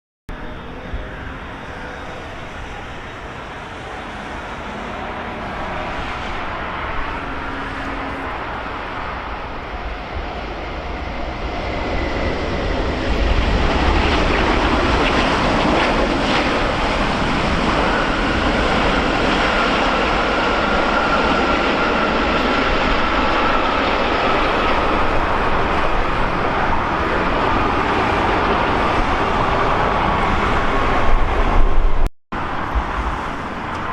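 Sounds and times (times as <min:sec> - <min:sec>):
jet airliner engine rushing: 0:00.3 - 0:33.9.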